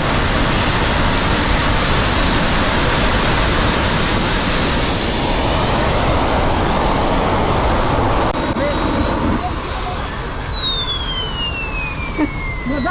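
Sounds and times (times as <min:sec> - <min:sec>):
jet turbine engine running: 0:00.0 - 0:12.9.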